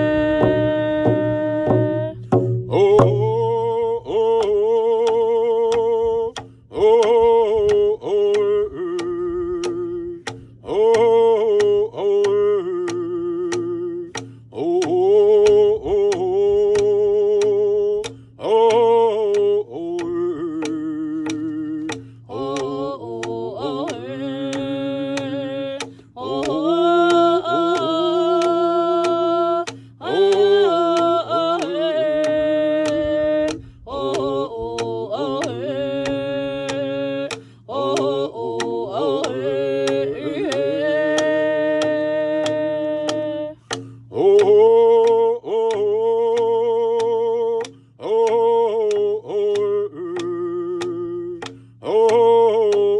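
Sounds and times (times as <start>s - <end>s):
hand drum beat: 0.0s - 52.9s
voices singing long notes: 0.0s - 52.9s.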